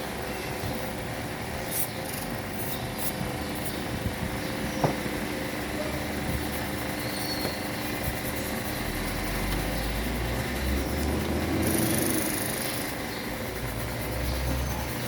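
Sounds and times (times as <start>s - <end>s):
vehicle engine rumble: 2.3s - 15.0s.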